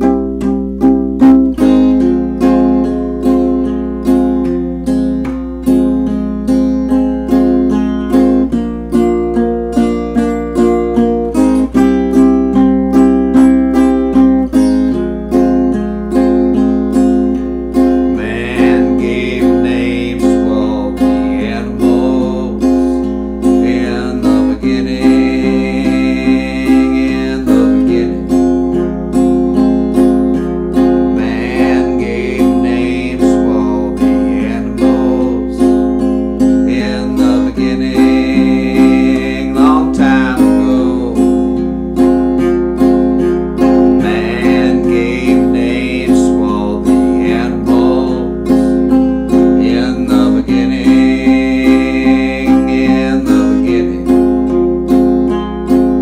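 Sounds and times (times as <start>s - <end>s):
acoustic guitar strumming: 0.0s - 56.0s
higher melody line: 0.0s - 56.0s.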